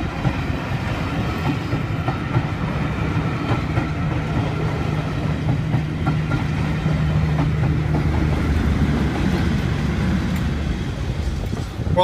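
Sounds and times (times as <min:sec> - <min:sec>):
train low drone: 0:00.0 - 0:12.0
wheels clacking on rails: 0:00.0 - 0:12.0.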